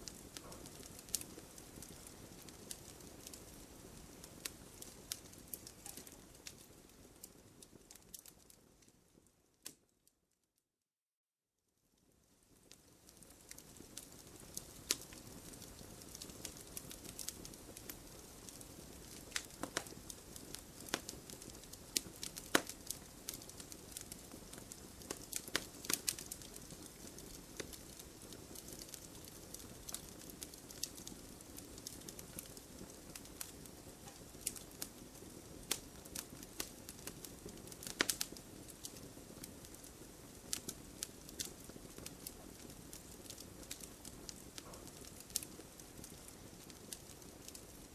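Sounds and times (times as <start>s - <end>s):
wood fire crackling: 0.0s - 10.0s, 12.0s - 47.9s.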